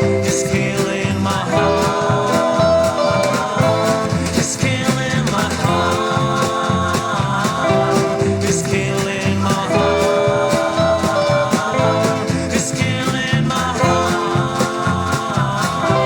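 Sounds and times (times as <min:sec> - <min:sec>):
drums: 0:00.0 - 0:16.0
guitar with string bends: 0:00.0 - 0:16.0
upright bass line: 0:00.0 - 0:16.0.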